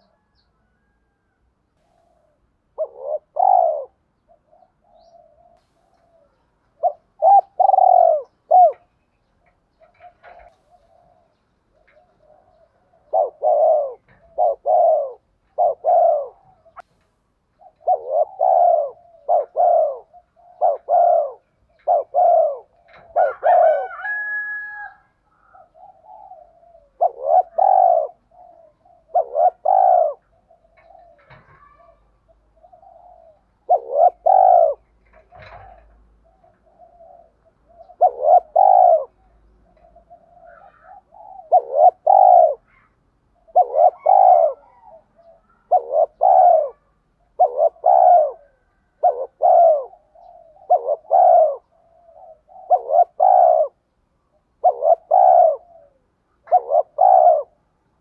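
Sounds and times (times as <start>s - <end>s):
dove cooing: 0.0s - 57.7s.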